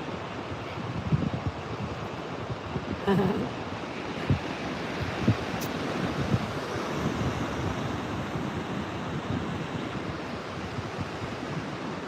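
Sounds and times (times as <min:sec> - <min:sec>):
surf washing onto beach: 0:00.0 - 0:12.0
wind buffeting microphone: 0:00.2 - 0:03.5, 0:04.1 - 0:12.0.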